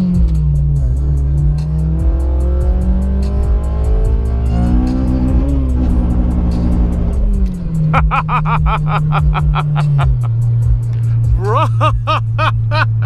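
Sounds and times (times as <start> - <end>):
car engine accelerating: 0.0 - 13.0
music with steady beat: 0.0 - 13.0.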